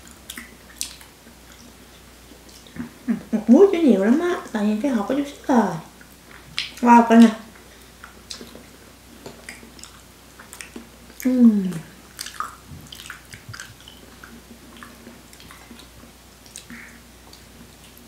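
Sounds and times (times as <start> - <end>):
squishing and chewing: 0.0 - 3.2, 5.9 - 18.0.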